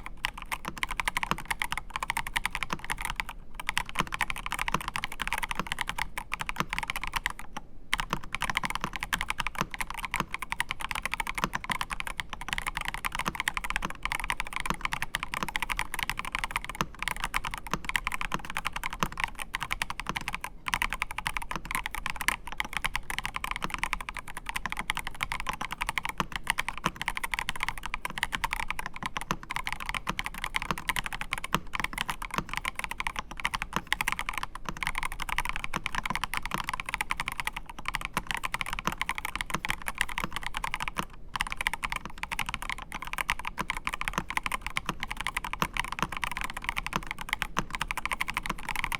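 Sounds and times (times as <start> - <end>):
mechanical keyboard typing: 0.0 - 48.9.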